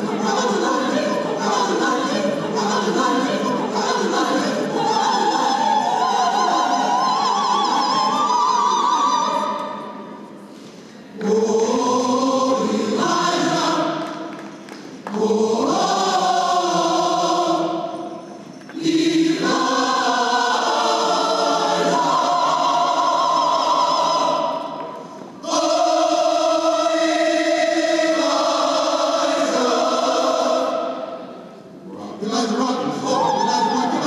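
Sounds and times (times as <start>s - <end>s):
mixed choir singing: 0.0s - 10.2s, 11.1s - 34.0s.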